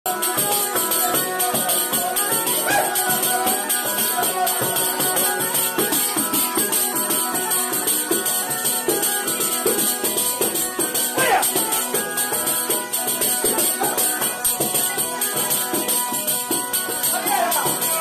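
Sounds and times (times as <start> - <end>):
bagpipe playing: 0.1 - 18.0.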